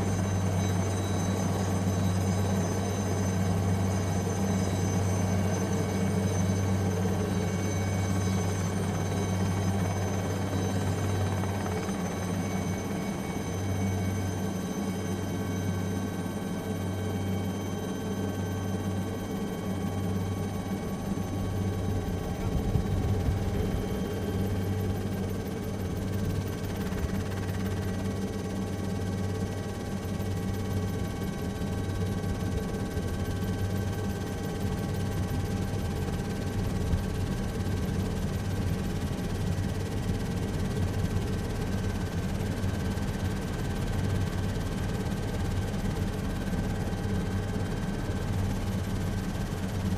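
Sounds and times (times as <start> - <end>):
helicopter rotor beat: 0.0 - 49.9
turbine whine: 0.0 - 49.9.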